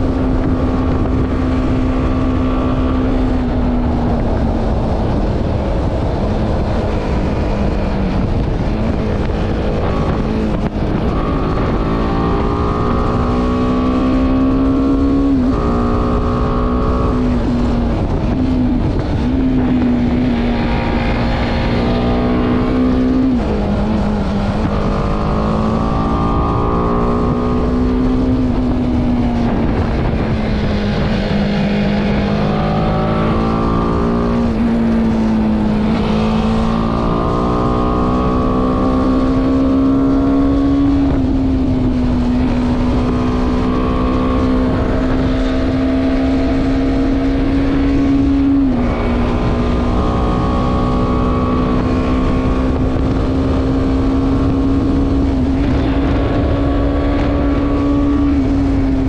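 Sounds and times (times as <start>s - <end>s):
motorcycle engine revving: 0.0s - 59.0s
wind rush over microphone: 0.0s - 59.0s.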